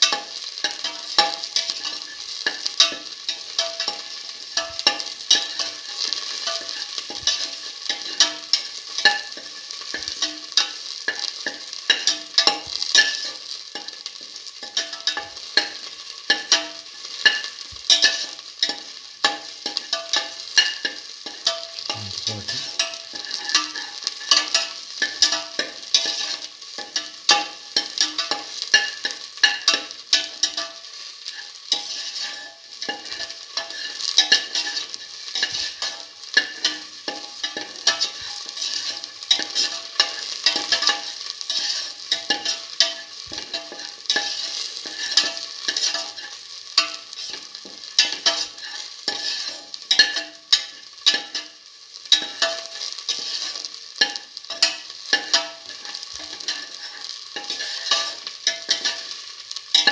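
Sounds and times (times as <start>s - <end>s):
onions and garlic sizzling in oil: 0.0s - 59.9s
spatula stirring in pan: 0.0s - 59.9s.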